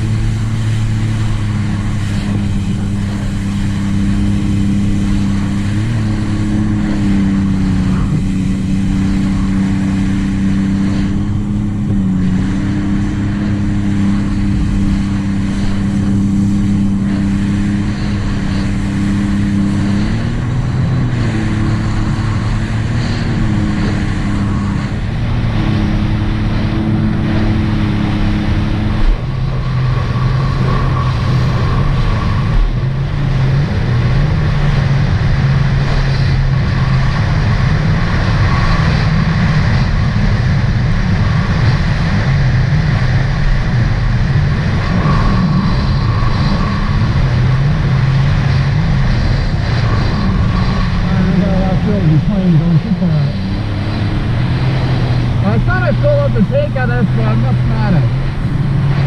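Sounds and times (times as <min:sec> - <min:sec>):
water rushing: 0:00.0 - 0:59.0
watercraft engine cruising: 0:00.0 - 0:59.0
wind rushing: 0:00.0 - 0:59.0.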